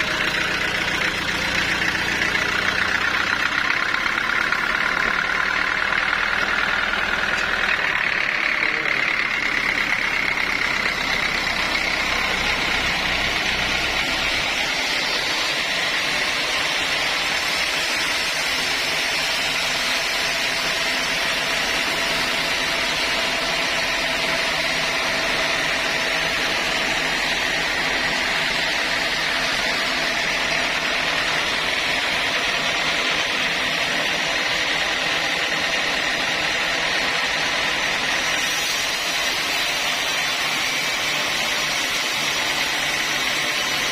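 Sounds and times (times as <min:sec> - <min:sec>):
sawmill saw running: 0:00.0 - 0:43.9.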